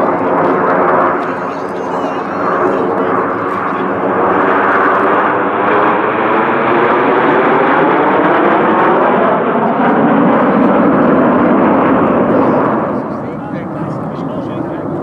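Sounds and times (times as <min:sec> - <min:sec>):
jet engines passing overhead: 0:00.0 - 0:15.0.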